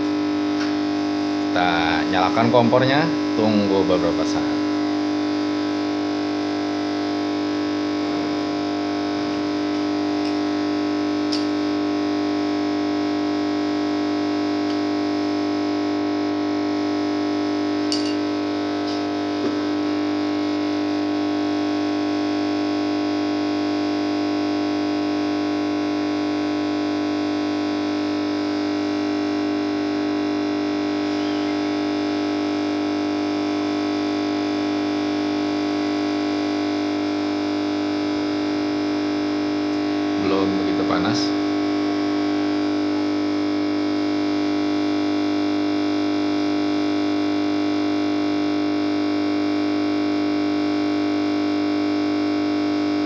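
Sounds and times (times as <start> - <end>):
stove humming drone: 0.0 - 49.2.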